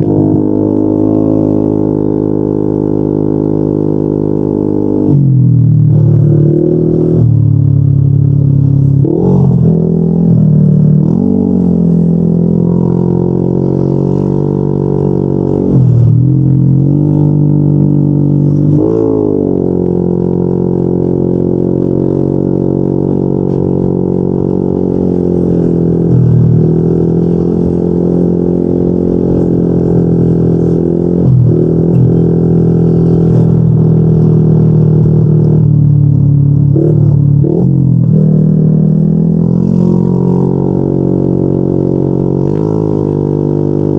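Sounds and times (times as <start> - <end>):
scooter engine running: 0.0 - 43.9.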